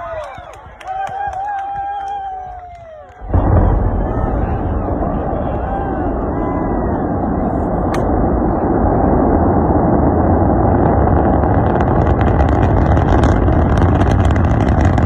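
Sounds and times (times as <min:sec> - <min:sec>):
rocket engine crackling: 0:00.0 - 0:15.0
rocket engines deep rumble: 0:00.0 - 0:15.0.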